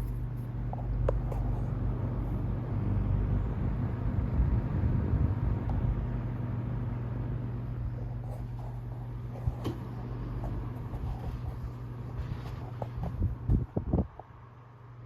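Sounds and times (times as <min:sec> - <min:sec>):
air rushing from fan blades: 0:00.0 - 0:14.4
fan motor hum: 0:00.0 - 0:15.0.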